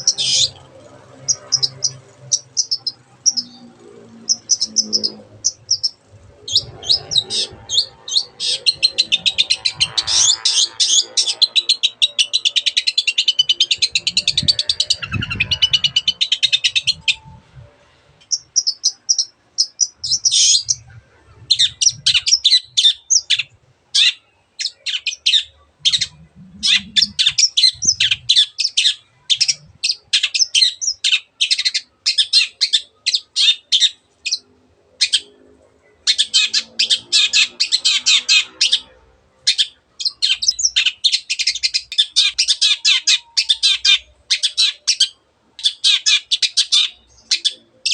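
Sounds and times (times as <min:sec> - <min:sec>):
shrike singing chattering song: 0:00.0 - 0:47.9.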